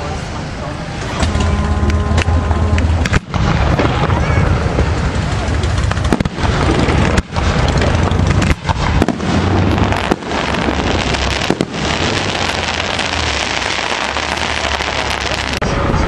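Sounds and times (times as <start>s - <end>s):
deep rumble: 0.0s - 16.0s
fireworks bursts and crackle: 1.0s - 16.0s.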